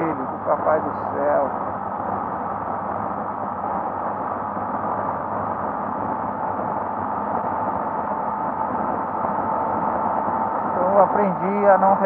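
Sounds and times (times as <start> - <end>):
faint steady whine: 0.0 - 12.0
wind rush: 1.4 - 11.4.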